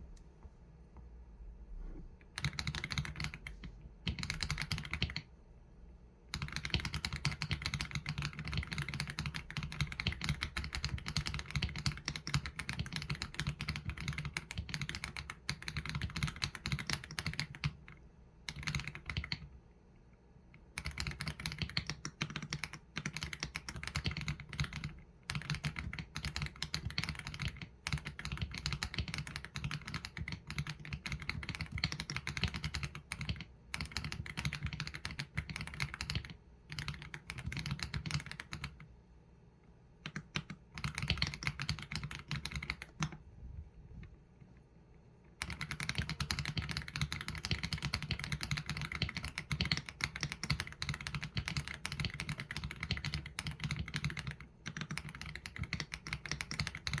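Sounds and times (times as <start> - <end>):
mechanical keyboard typing: 2.2 - 5.3, 6.3 - 19.5, 20.6 - 38.9, 40.0 - 43.2, 45.4 - 57.0.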